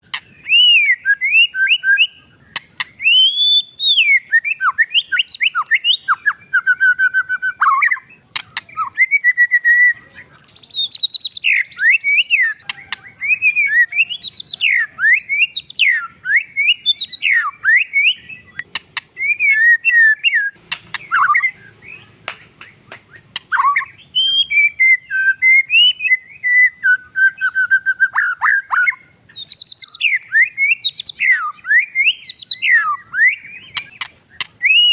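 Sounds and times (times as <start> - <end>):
bird whistled song: 0.0 - 34.9
faint high hiss: 0.0 - 34.9.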